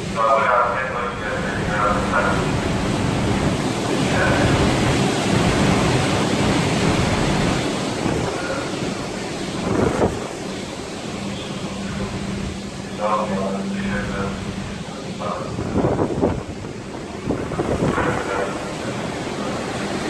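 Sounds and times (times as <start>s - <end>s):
heavy sea breaking: 0.0s - 20.0s
storm wind: 0.0s - 20.0s.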